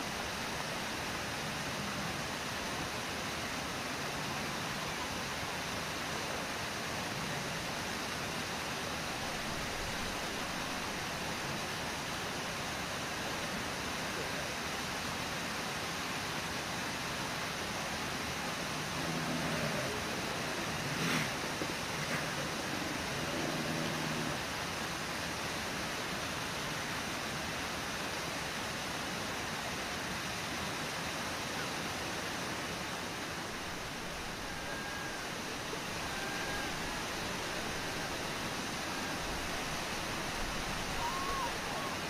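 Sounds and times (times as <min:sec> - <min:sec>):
waterfall roaring: 0:00.0 - 0:42.0.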